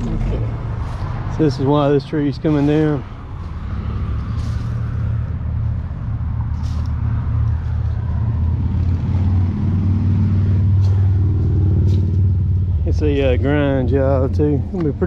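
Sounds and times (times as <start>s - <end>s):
engine running at low speed: 0.0s - 15.0s.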